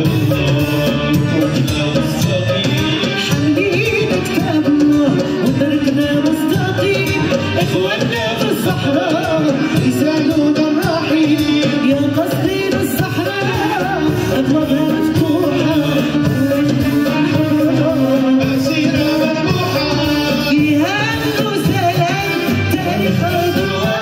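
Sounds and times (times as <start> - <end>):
live band playing: 0.0 - 24.0
violin: 0.0 - 24.0
woman singing into a microphone: 0.0 - 24.0.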